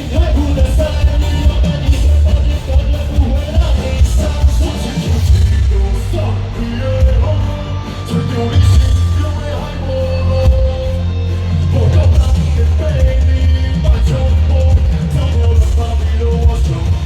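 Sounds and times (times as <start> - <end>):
heavy low bass: 0.0 - 17.0
live rock band playing: 0.0 - 17.0
person singing: 0.0 - 17.0.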